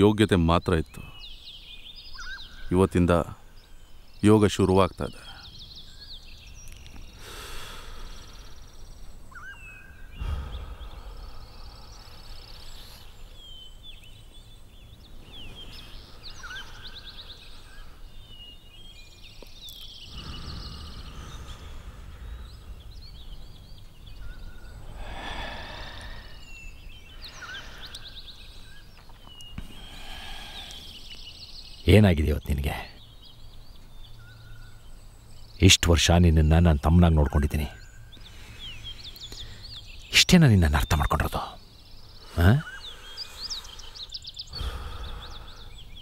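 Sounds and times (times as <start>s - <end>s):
birds chirping: 0.0s - 46.0s
low wind rumbles: 0.0s - 46.0s
steady outdoor hiss: 0.0s - 46.0s.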